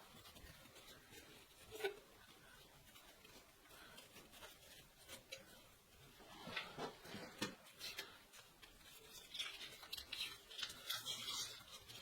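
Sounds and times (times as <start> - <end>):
hand scratching and rubbing: 0.0 - 12.0.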